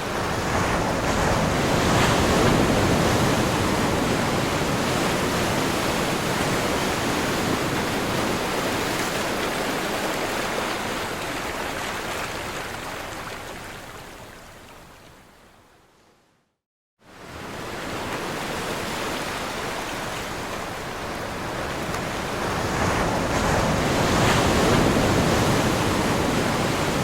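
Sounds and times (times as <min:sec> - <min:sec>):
ocean waves breaking on shore: 0:00.0 - 0:14.8, 0:17.0 - 0:27.0.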